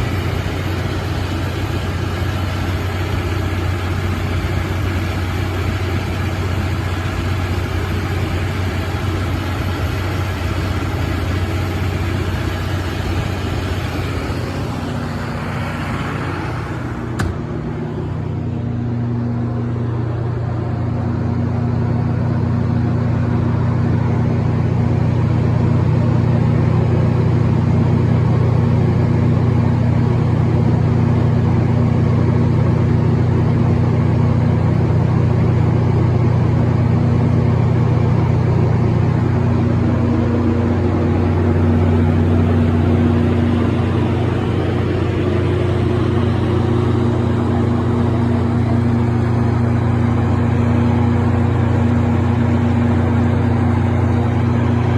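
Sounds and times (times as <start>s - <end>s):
diesel generator running: 0.0s - 54.9s.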